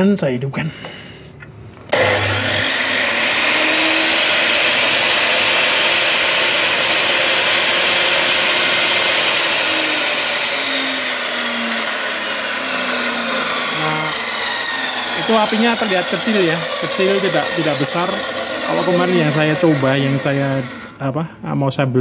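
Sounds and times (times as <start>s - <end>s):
cut-off saw motor whirring: 1.9s - 21.1s.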